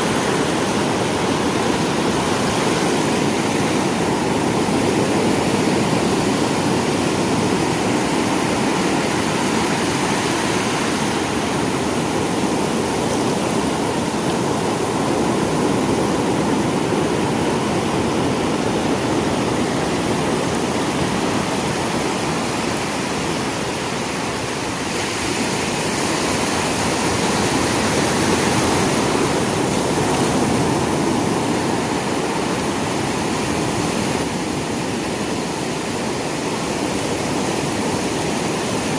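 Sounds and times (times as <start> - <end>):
sea waves washing on shore: 0.0 - 38.9.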